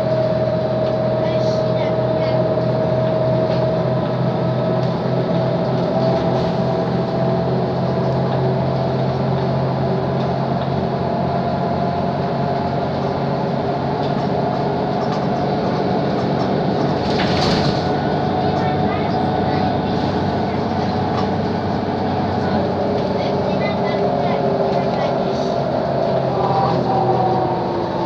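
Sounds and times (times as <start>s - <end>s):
bus engine drone with whine: 0.0s - 28.0s.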